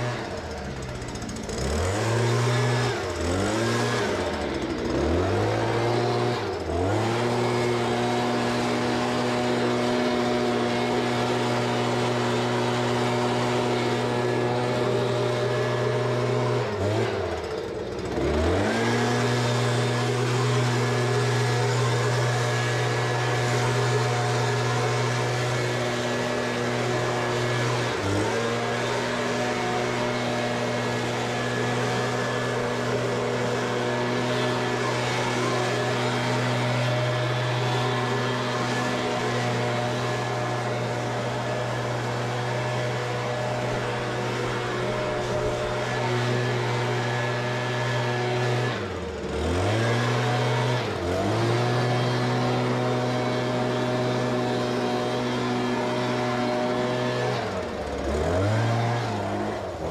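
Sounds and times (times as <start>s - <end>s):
leaf blower running: 0.0s - 59.9s.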